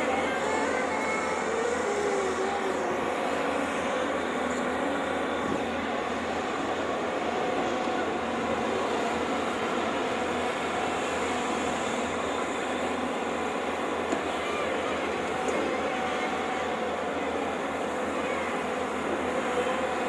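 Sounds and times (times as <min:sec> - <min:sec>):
excavator diesel engine running: 0:00.0 - 0:20.0
faint wavering whine: 0:00.0 - 0:20.0.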